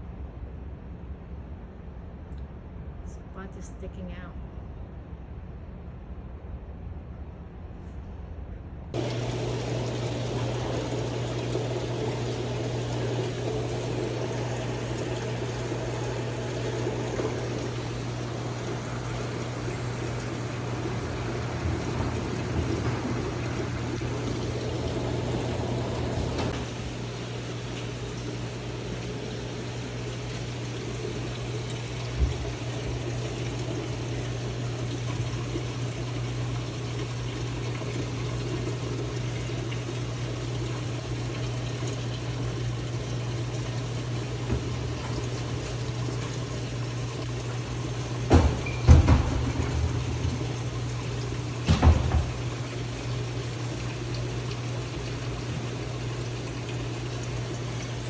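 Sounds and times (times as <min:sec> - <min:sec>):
aquarium water circulating: 0:08.9 - 0:58.0
pump humming: 0:08.9 - 0:58.0.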